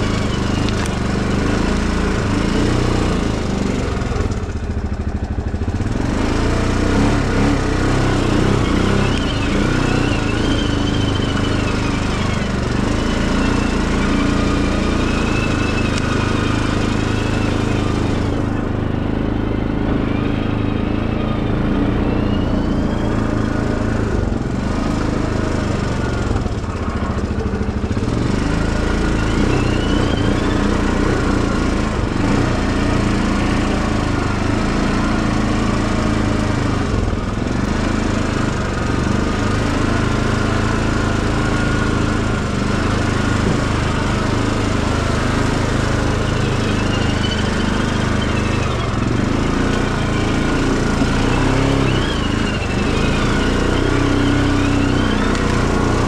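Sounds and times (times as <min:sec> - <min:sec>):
small vehicle engine running: 0:00.0 - 0:56.0
high squeaks: 0:06.2 - 0:37.2, 0:39.4 - 0:56.0.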